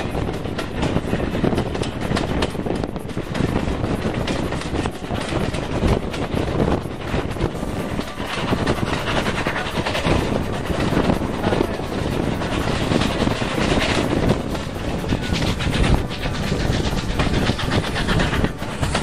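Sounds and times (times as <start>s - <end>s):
train wheels on rails: 0.0s - 19.0s
wind buffeting microphone: 0.0s - 19.0s.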